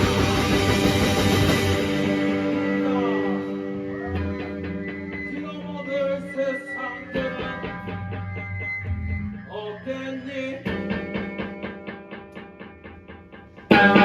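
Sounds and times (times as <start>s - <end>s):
clean picked guitar notes: 0.0s - 14.0s
distorted rock band guitars: 0.0s - 14.0s.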